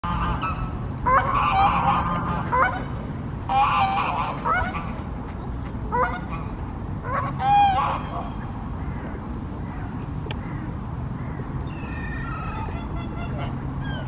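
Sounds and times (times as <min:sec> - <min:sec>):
low background noise: 0:00.0 - 0:14.0
waterbirds honking: 0:00.0 - 0:14.0.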